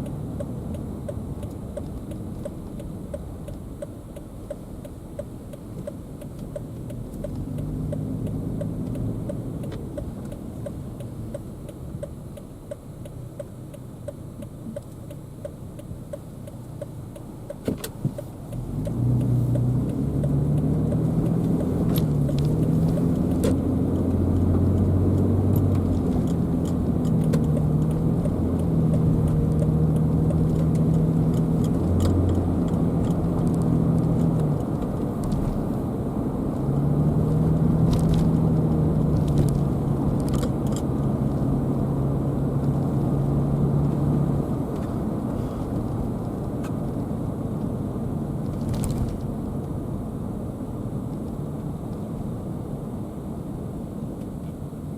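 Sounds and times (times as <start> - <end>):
car engine: 0.0 - 54.9
road noise: 0.0 - 54.9
turn signal ticking: 0.0 - 54.9.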